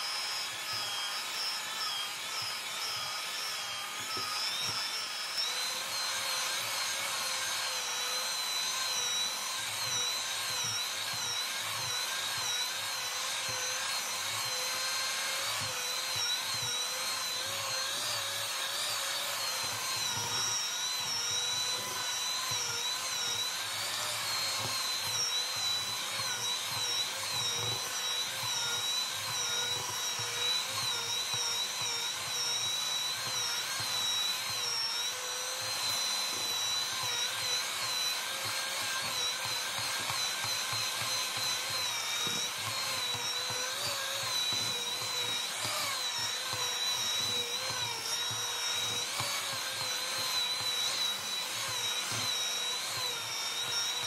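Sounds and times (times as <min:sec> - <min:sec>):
hand mixer motor whine: 0:00.0 - 0:54.0.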